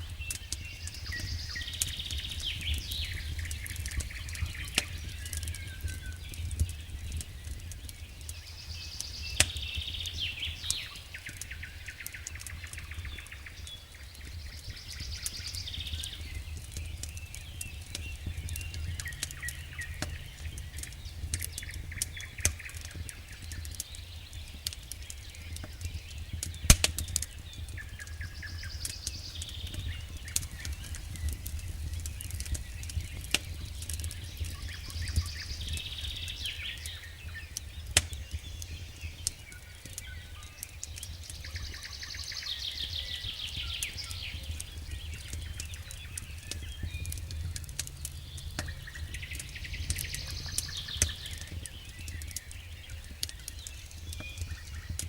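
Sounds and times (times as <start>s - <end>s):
fire low rumble: 0.0s - 55.0s
wood fire crackling and popping: 0.0s - 55.0s.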